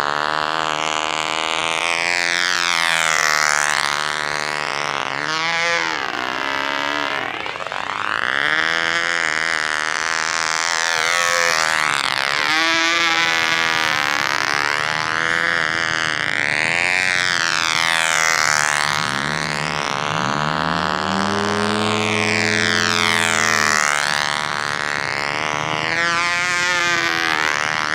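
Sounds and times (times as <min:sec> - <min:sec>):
model plane engine buzzing: 0:00.0 - 0:27.9.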